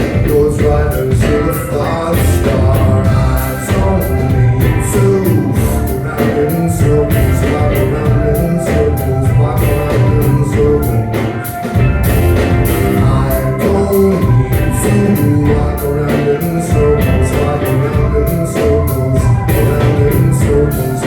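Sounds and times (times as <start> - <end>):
drum kit beat: 0.0 - 21.0
heavy bass: 0.0 - 21.0
rock band playing: 0.0 - 21.0.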